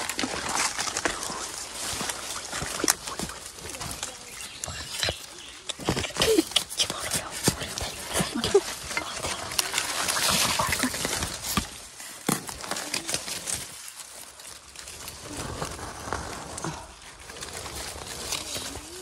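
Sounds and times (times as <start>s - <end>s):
leaves rustling: 0.0s - 19.0s.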